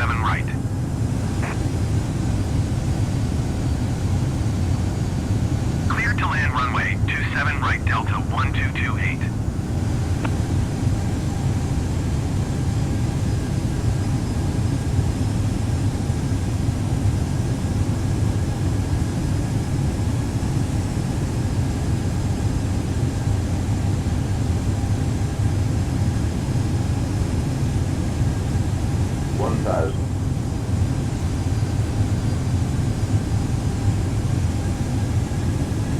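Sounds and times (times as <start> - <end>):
jet engine rumble: 0.0 - 35.9.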